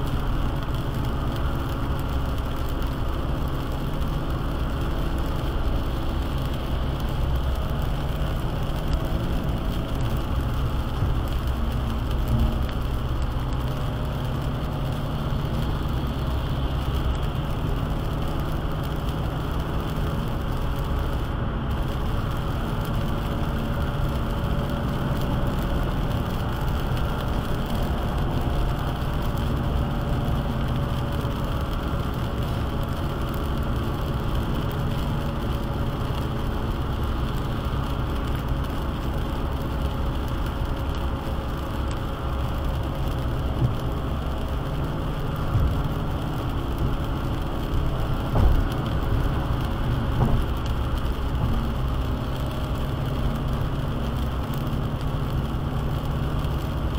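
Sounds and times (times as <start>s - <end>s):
engine and tyre rumble: 0.0s - 56.9s
rain and spray hiss: 0.0s - 56.9s.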